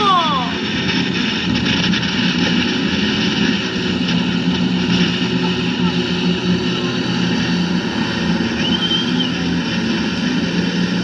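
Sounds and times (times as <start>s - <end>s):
speedboat engines humming: 0.0s - 11.0s.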